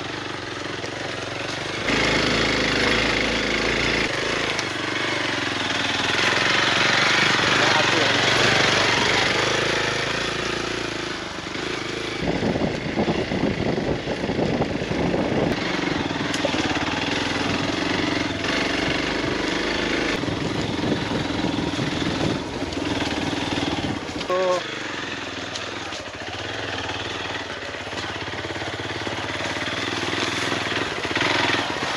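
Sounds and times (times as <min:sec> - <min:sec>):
motorcycle engine running: 0:00.0 - 0:31.9
road noise: 0:00.0 - 0:31.9.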